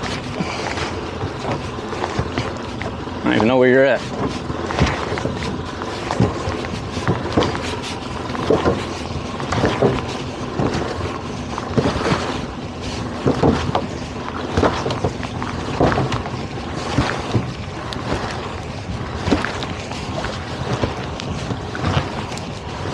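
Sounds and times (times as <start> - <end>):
outboard motors running: 0.0 - 22.9
wind buffeting microphone: 0.0 - 22.9.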